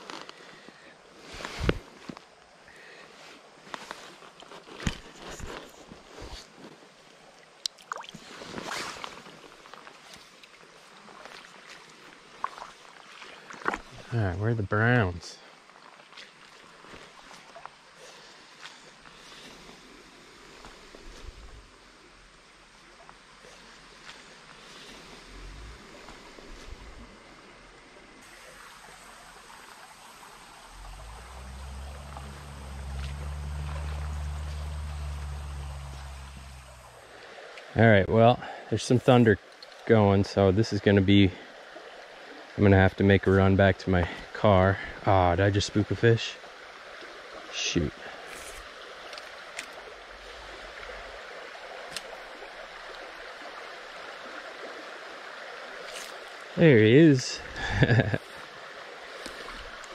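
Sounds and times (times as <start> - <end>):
stream trickling over stones: 3.4 - 59.9.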